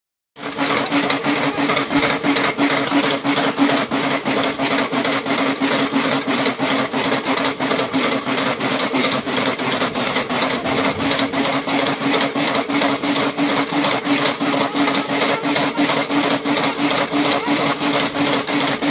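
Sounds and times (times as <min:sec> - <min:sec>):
dog paws striking treadmill: 0:00.4 - 0:18.9
treadmill humming and rubbing: 0:00.4 - 0:18.9.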